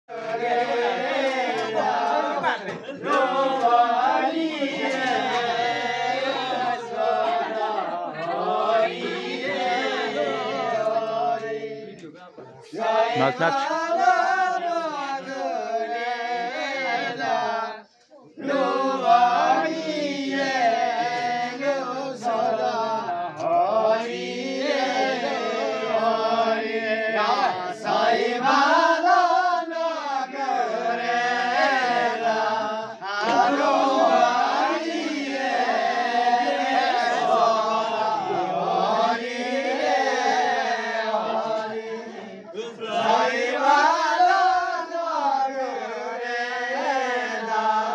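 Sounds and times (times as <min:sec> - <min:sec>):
men singing together: 0:00.1 - 0:47.9.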